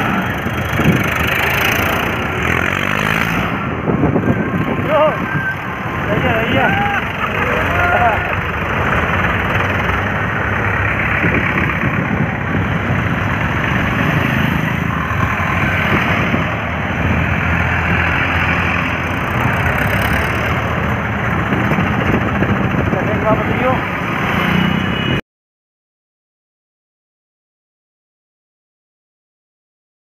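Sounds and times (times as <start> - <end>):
tractor engines droning: 0.0 - 25.2.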